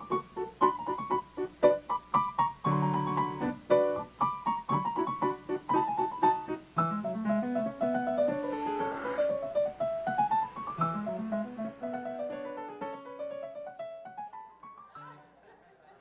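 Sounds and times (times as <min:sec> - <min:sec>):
piano music: 0:00.0 - 0:15.2.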